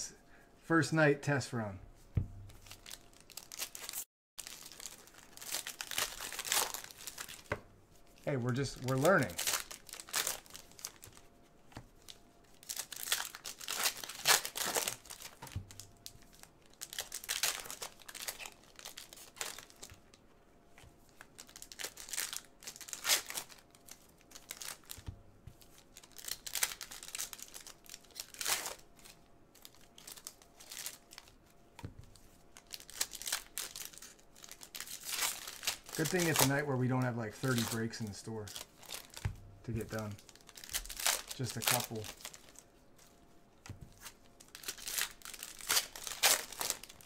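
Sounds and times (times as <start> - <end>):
foil wrappers tearing and crinkling: 2.5 - 7.5, 8.2 - 11.2, 12.0 - 20.2, 21.1 - 25.0, 25.7 - 31.4, 32.5 - 42.6, 43.9 - 47.0.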